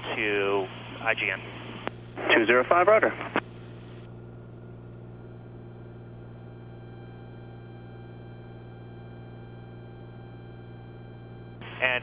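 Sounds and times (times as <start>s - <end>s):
electrical hum: 0.0s - 12.0s
faint high whine: 0.0s - 12.0s
small plane engine drone: 0.0s - 12.0s.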